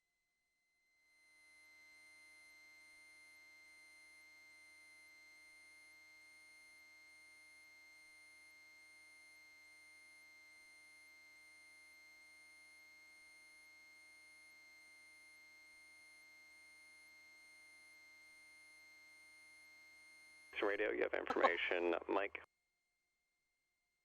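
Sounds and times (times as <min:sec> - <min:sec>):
faint electronic whine and hiss: 0:00.9 - 0:22.4.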